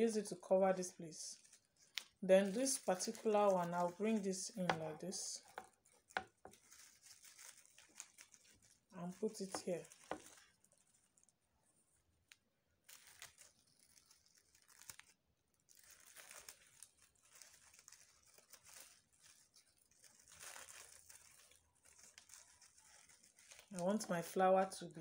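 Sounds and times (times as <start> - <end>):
stiff fabric crinkling: 1.3 - 11.4, 12.7 - 24.7.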